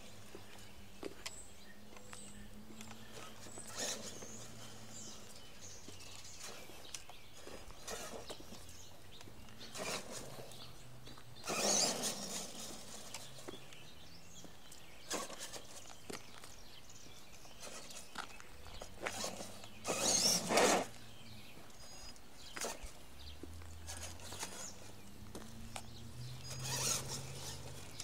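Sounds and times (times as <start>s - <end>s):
faint low motor hum: 0.0s - 28.0s.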